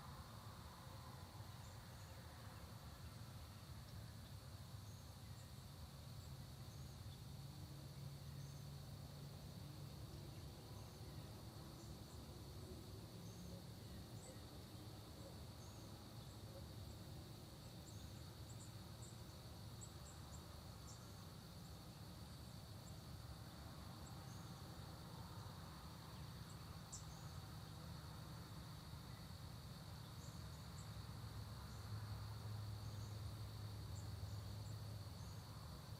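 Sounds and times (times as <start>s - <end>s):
insect chorus: 0.0s - 35.9s.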